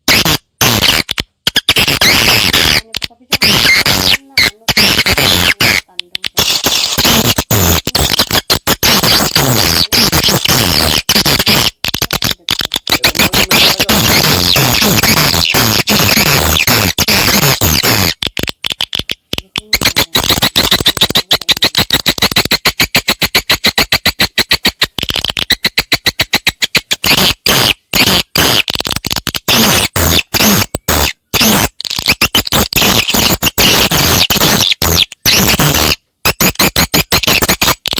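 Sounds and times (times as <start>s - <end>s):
swiftlet chirps and clicks: 0.0s - 37.9s.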